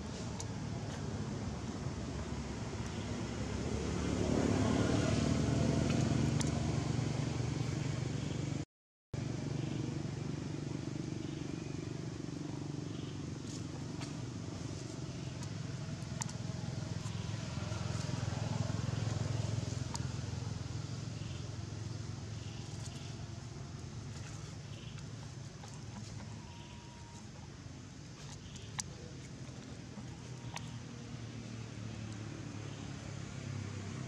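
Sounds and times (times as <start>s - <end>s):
low motor-like rumble: 0.0s - 8.6s, 9.2s - 34.0s.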